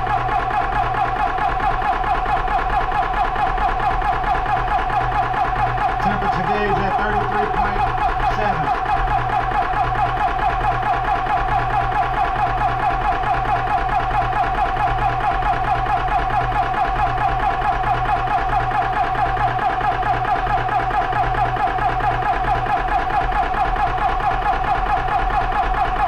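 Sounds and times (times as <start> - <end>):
air compressor pumping: 0.0 - 26.0.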